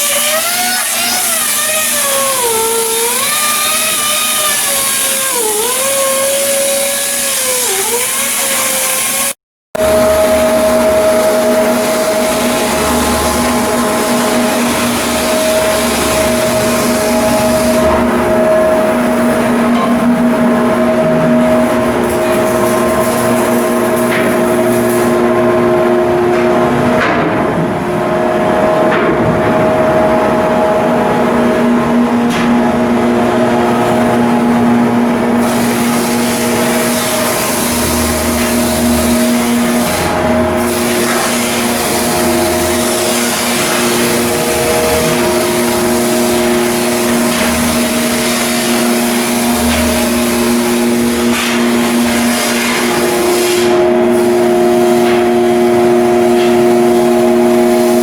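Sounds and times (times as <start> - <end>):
heavy machinery running: 0.0 - 58.0.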